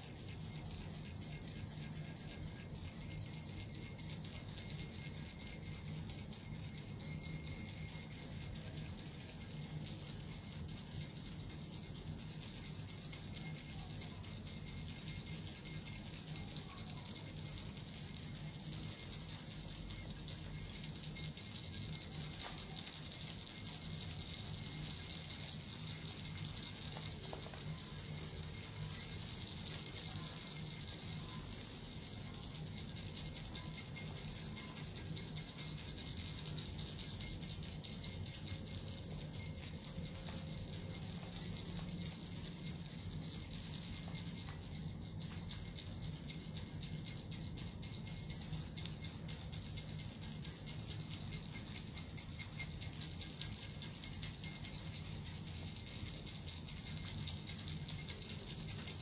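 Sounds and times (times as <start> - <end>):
bells and metal rattle jingling: 0.0 - 59.0.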